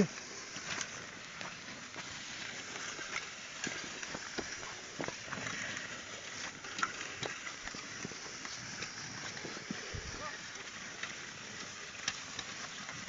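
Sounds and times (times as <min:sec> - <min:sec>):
hooves and plough knocking: 0:00.0 - 0:13.0
steady hiss: 0:00.0 - 0:13.0.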